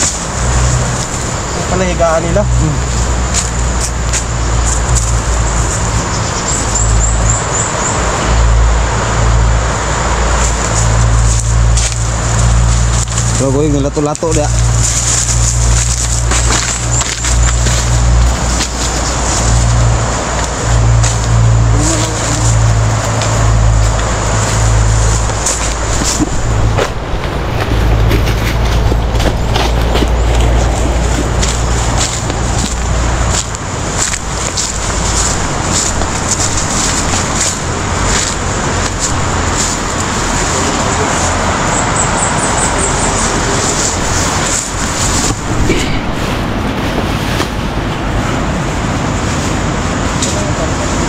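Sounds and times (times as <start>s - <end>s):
footsteps crunching dry leaves: 0.0s - 51.0s
loud rushing noise: 0.0s - 51.0s
wind buffeting microphone: 0.0s - 51.0s.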